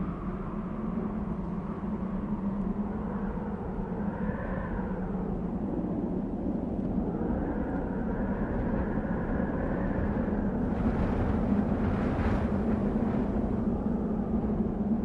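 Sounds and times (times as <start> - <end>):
faint wind moaning tone: 0.0 - 15.0
wind rumbling: 0.0 - 15.0.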